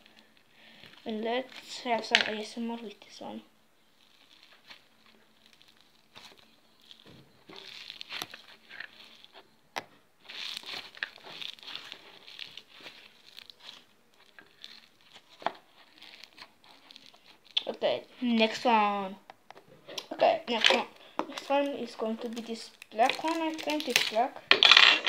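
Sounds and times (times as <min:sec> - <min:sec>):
slime clicking and crackling: 0:04.0 - 0:25.0.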